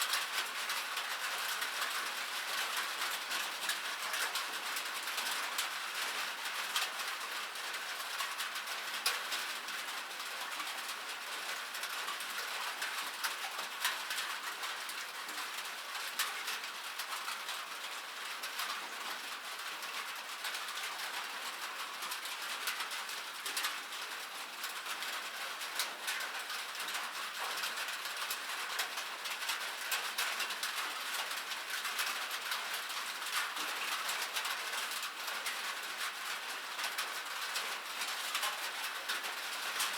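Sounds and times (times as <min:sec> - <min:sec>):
rain on a metal surface: 0:00.0 - 0:39.9.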